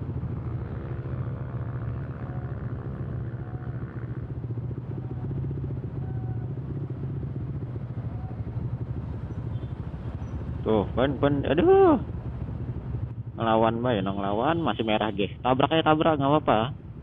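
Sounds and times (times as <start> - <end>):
motorcycle engine running: 0.0 - 14.8
road and wind noise: 0.0 - 17.0.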